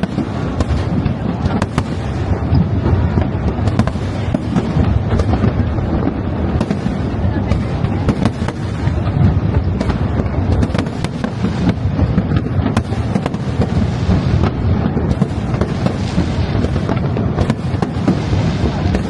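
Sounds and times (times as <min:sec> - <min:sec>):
fireworks bangs and crackles: 0:00.0 - 0:19.0
fireworks rumble: 0:00.0 - 0:19.0.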